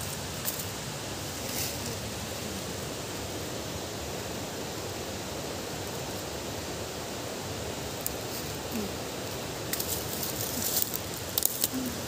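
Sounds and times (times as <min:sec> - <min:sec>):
outdoor rushing hiss: 0:00.0 - 0:12.0.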